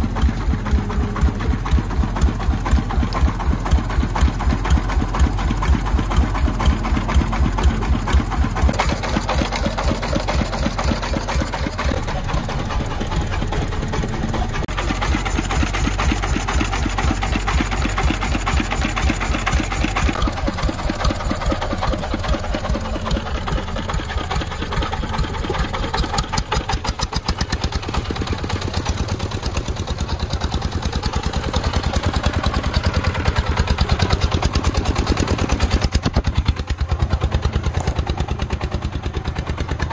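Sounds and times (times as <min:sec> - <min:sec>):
diesel engine chugging: 0:00.0 - 0:39.9
excavator engine working: 0:00.0 - 0:39.9.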